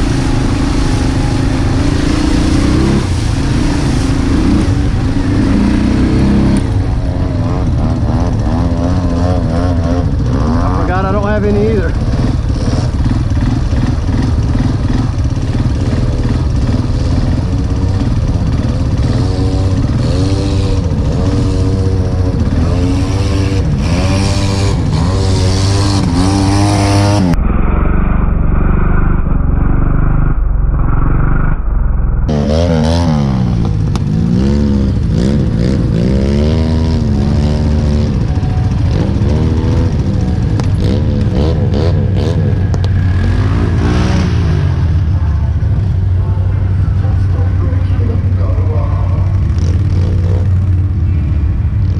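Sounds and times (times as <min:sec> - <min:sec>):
engine revving: 0:00.0 - 0:51.9.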